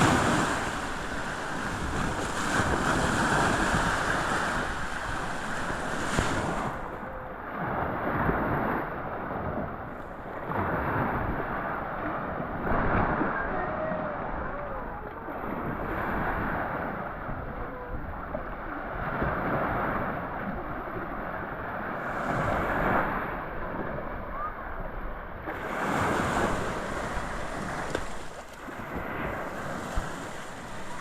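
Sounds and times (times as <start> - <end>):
wind buffeting microphone: 0.0 - 21.0, 22.0 - 31.0
surf washing onto sand beach: 0.0 - 31.0.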